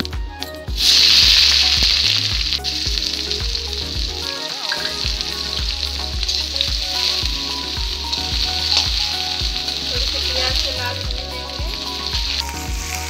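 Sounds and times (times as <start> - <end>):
soft music with low beat: 0.0 - 13.0
onions sizzling in hot oil: 0.8 - 13.0.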